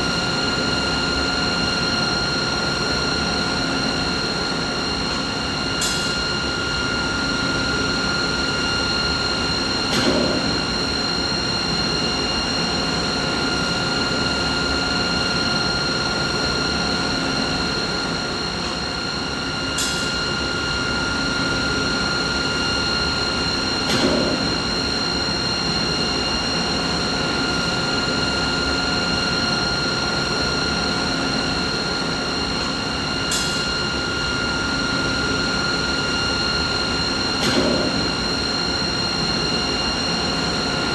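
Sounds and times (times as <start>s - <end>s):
machinery hum with high whine: 0.0s - 40.9s.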